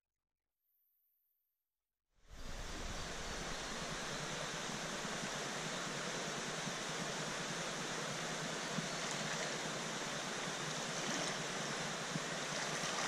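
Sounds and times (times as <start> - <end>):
stream running over stones: 2.4 - 13.0.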